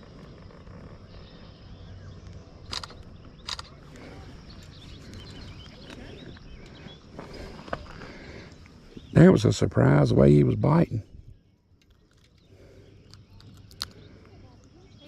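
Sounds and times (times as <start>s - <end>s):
faint bird chirps: 0.0s - 9.9s, 11.0s - 15.0s.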